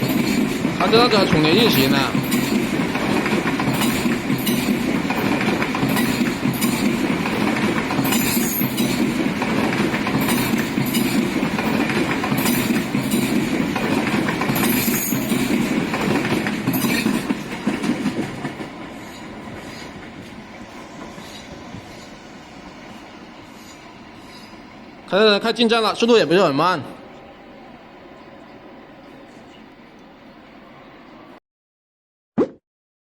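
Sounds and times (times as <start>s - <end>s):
train wheels rumbling on rails: 0.0s - 31.4s.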